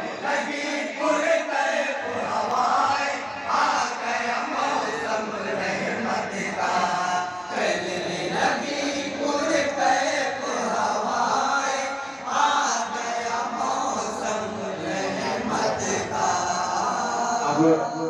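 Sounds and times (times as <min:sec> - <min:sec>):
men chanting together: 0:00.0 - 0:18.0.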